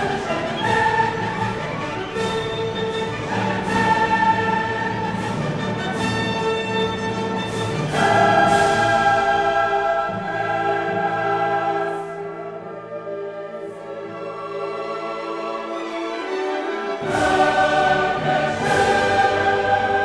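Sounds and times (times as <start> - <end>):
choir singing sustained chords: 0.0 - 6.4, 7.6 - 20.0
orchestra playing: 0.0 - 20.0.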